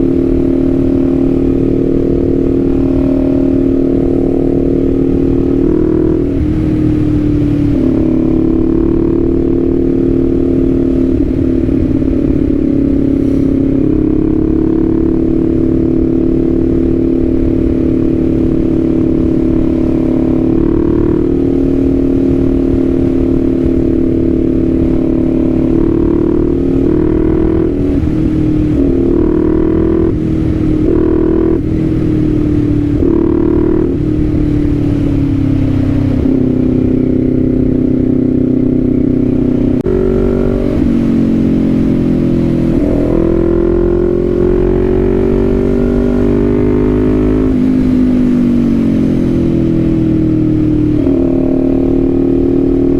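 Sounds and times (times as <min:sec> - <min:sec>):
motorcycle engine shifting gears: 0:00.0 - 0:52.9
wind rush: 0:00.0 - 0:52.9.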